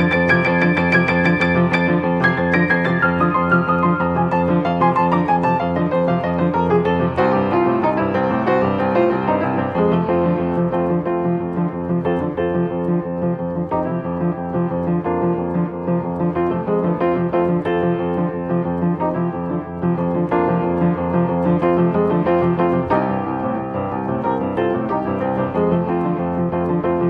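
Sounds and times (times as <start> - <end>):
boogie-woogie piano: 0.0 - 27.0.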